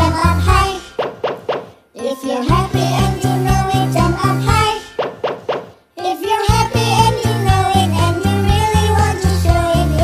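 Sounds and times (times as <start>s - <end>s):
children's music with bass beat: 0.0s - 10.0s.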